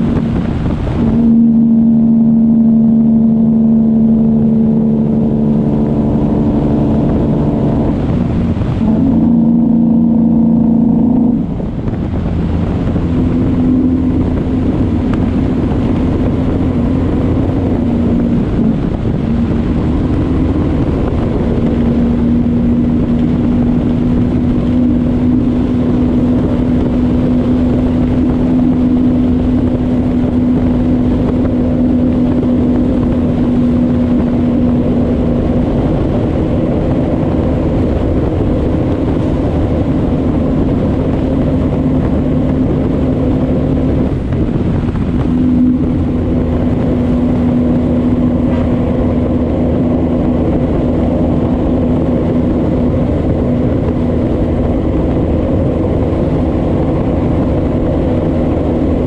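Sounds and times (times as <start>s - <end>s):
diesel truck engine droning: 0.0s - 59.0s
road and wind noise: 0.0s - 59.0s.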